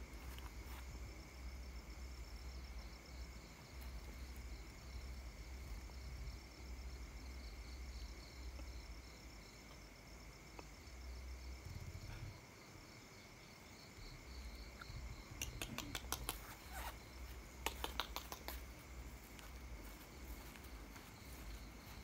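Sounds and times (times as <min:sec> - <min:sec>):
crickets pulsing trill: 0:00.0 - 0:22.0
crickets steady high tone: 0:00.0 - 0:22.0.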